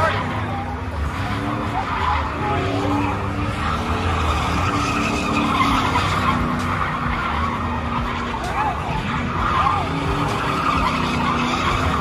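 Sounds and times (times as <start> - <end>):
truck engine revving hard: 0.0 - 12.0
tyres squealing on pavement: 0.0 - 12.0.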